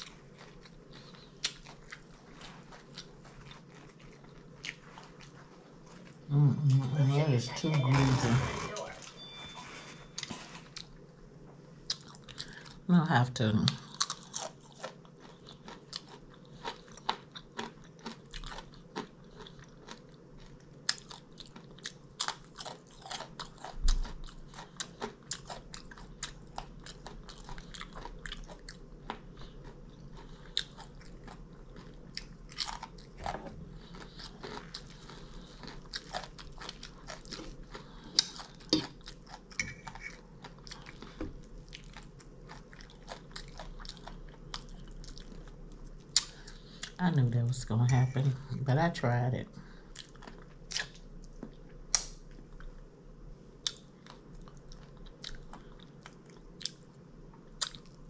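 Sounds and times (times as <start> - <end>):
crunching and chewing food: 0.0 - 47.9, 49.6 - 58.0.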